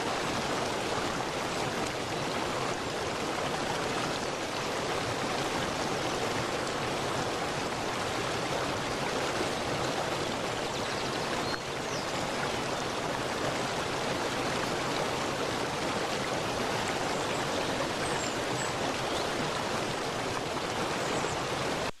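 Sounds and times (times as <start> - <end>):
stream water rushing: 0.0 - 21.9.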